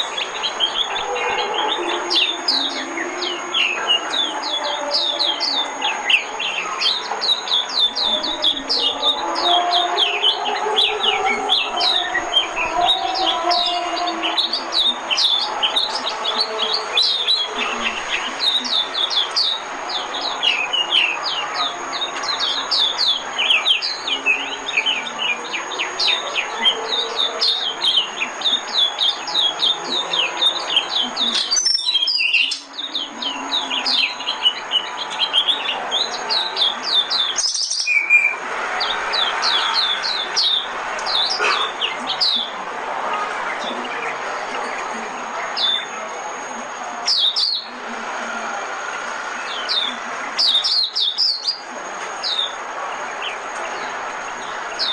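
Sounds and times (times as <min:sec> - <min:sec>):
bird twittering song: 0:00.0 - 0:42.6, 0:43.4 - 0:47.8, 0:49.2 - 0:54.9.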